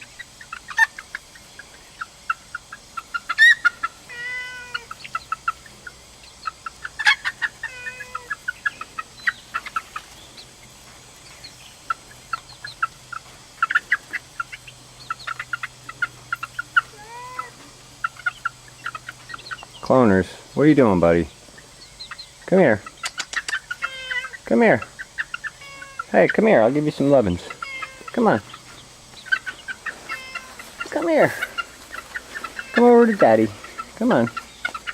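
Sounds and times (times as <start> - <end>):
chicken drawn-out calls: 0.0 - 34.9
chickens clucking: 0.0 - 34.9.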